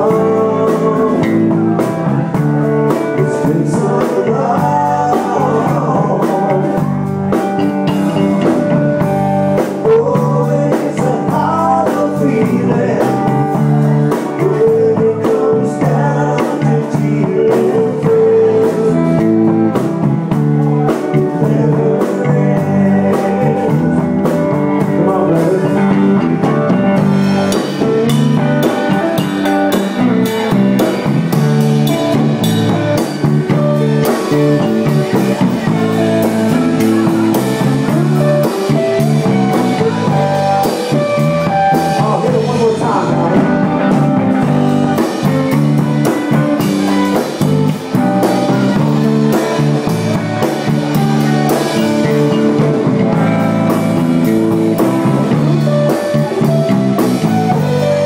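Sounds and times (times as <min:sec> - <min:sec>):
live band playing loud: 0:00.0 - 0:58.0.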